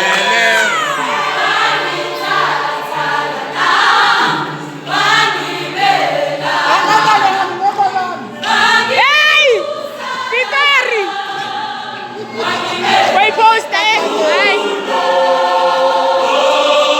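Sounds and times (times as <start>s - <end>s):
vocal group singing in harmony: 0.0s - 16.9s.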